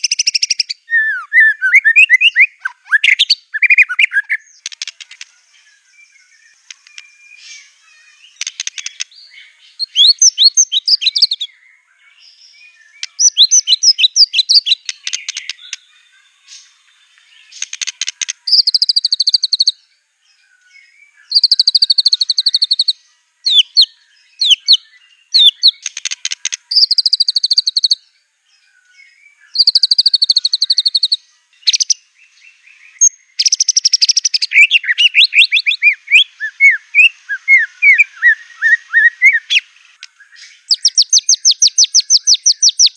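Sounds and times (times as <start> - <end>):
songbird singing varied song: 0.0 - 42.9.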